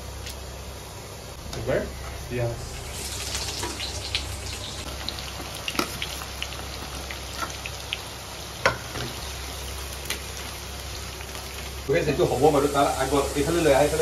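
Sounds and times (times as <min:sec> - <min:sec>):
onions sizzling in hot oil: 0:01.6 - 0:14.0.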